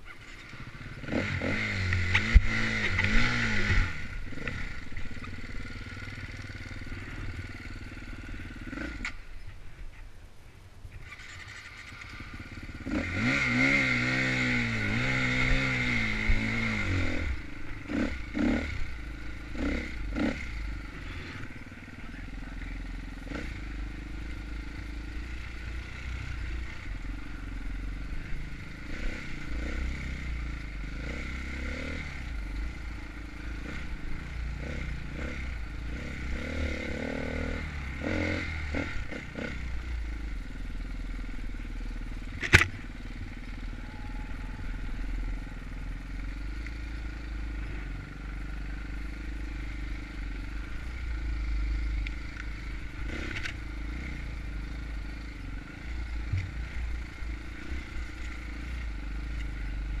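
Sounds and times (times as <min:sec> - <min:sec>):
dirt bike engine running: 0:00.0 - 0:09.4, 0:11.0 - 1:00.0.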